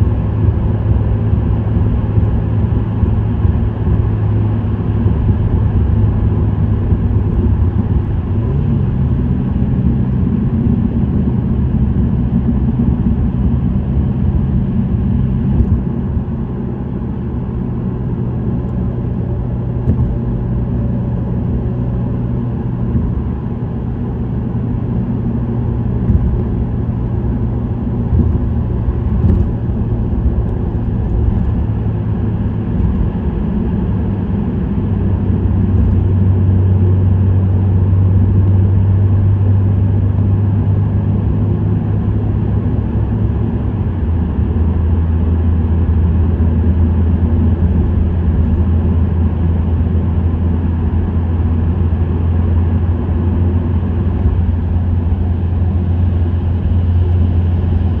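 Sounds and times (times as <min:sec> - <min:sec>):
car engine at speed: 0:00.0 - 0:58.0
road and tyre noise: 0:00.0 - 0:58.0.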